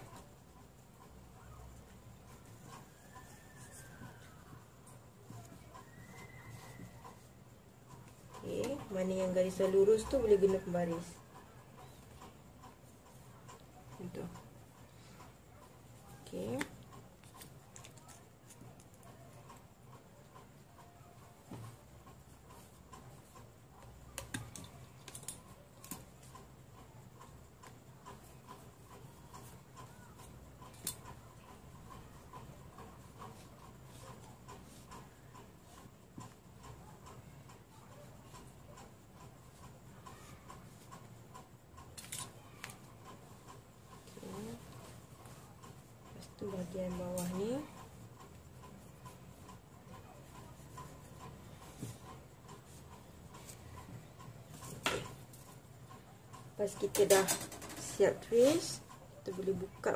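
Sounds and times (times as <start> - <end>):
regular ticking: 0.0 - 59.9.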